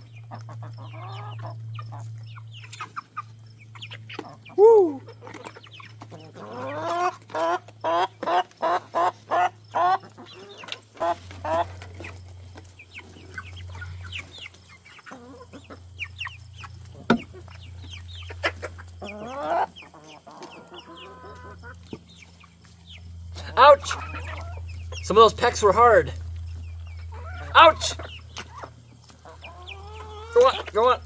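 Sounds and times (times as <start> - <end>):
chickens calling: 0.0 - 31.0
chickens clucking: 0.0 - 31.0.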